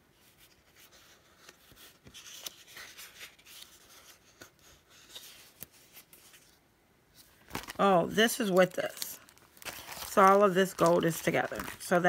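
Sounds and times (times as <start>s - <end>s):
paper sheets rustling and sliding: 0.2s - 6.6s, 7.2s - 12.0s.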